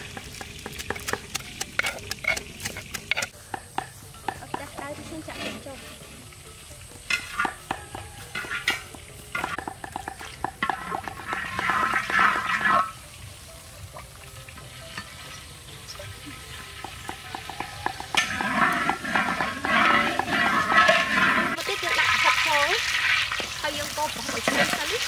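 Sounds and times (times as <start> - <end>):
metal ladle scraping a wok: 0.0 - 3.4, 4.9 - 13.0, 14.7 - 25.0
oil sizzling: 0.0 - 25.0.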